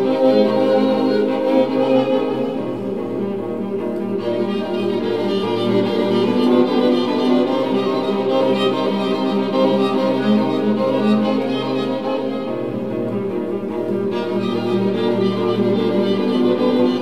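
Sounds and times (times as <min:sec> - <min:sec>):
bowed strings holding long notes: 0:00.0 - 0:17.0.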